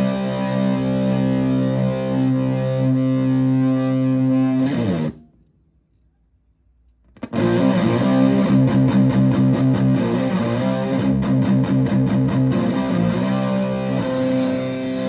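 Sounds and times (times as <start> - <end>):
fuzzed electric guitar chords: 0.0 - 5.2, 7.2 - 15.0.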